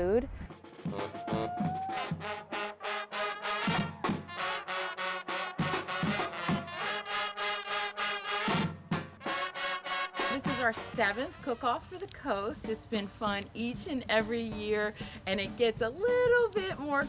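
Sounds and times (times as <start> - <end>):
upbeat brass band music: 0.5 - 14.6.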